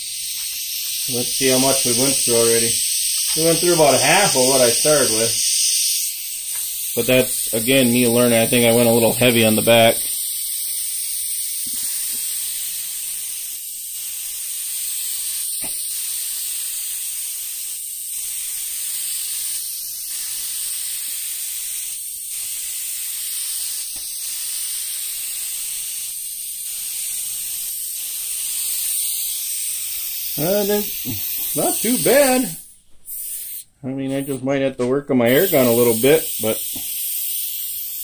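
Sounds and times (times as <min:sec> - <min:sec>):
spray gun hissing: 0:00.0 - 0:34.4, 0:35.3 - 0:38.0.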